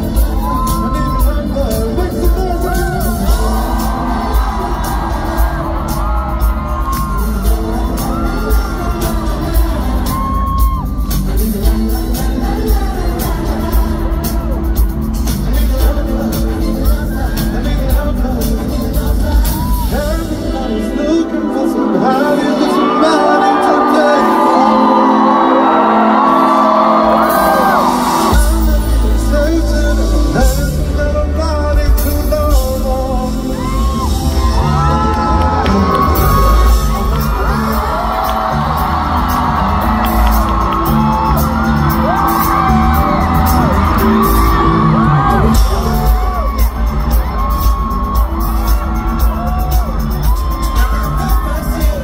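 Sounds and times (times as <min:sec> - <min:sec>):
audience shouting and whooping: 0:00.0 - 0:18.4, 0:21.8 - 0:28.6, 0:32.4 - 0:52.0
band with heavy bass and drums: 0:00.0 - 0:52.0
live pop concert music: 0:00.0 - 0:52.0
person singing: 0:00.0 - 0:52.0.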